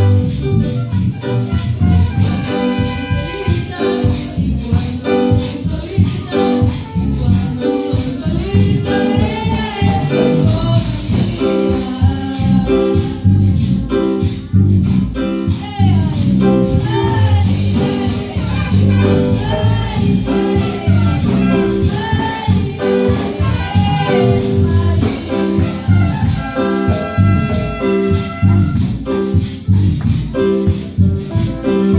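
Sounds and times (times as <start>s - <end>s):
band accompaniment with steady beat: 0.0s - 31.9s
woman singing a praise song: 1.0s - 14.5s, 15.3s - 29.5s.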